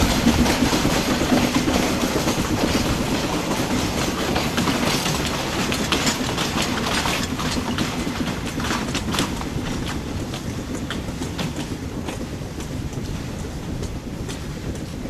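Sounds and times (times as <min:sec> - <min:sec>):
train rumble: 0:00.0 - 0:15.0
train wheels clacking on rail joints: 0:00.0 - 0:15.0.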